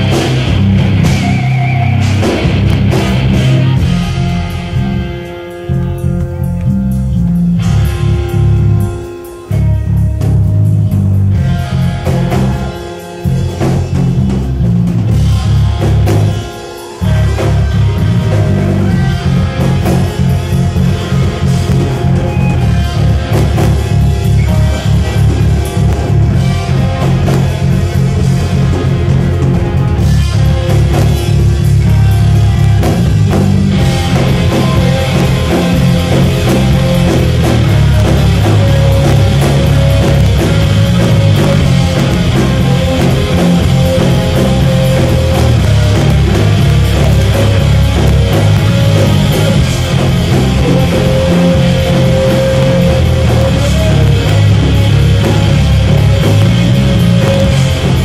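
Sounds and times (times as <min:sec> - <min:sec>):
electric guitars: 0:00.0 - 0:58.0
pounding drum kit: 0:00.0 - 0:58.0.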